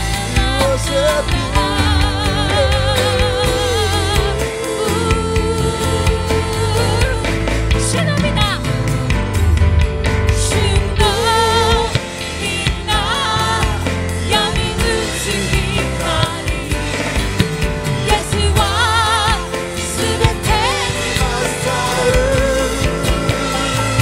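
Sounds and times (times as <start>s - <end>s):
drums: 0.0s - 24.0s
guitar: 0.0s - 24.0s
lead vocals with vibrato: 0.0s - 24.0s.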